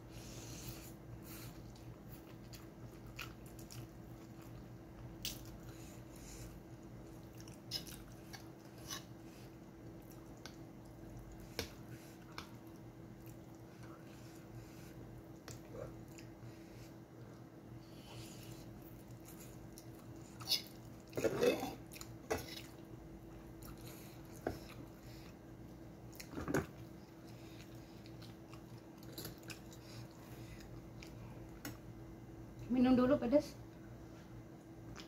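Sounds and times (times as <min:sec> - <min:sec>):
faint steady hum: 0:00.0 - 0:35.0
chewing and sucking spaghetti: 0:00.3 - 0:31.3.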